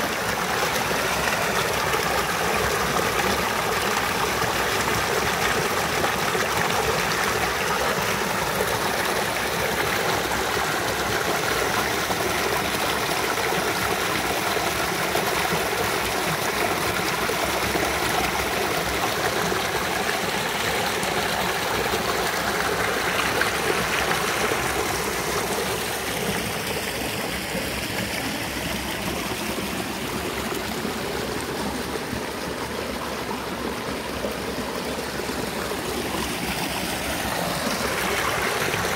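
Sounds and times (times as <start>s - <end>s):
creek water rushing over rocks: 0.0s - 38.9s.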